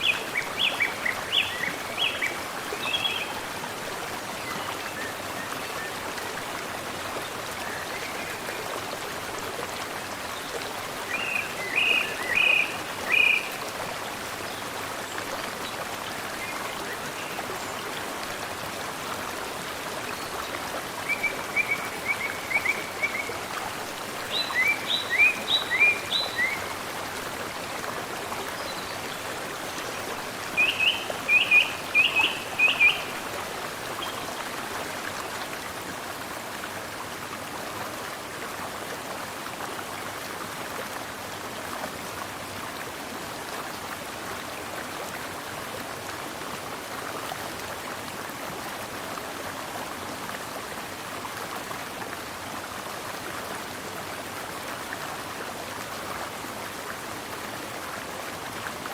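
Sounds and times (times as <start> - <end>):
mountain stream flowing: 0.0 - 58.9.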